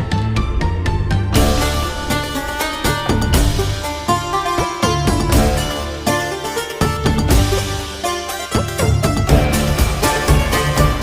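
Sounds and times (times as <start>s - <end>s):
background music with bass and beat: 0.0s - 11.0s.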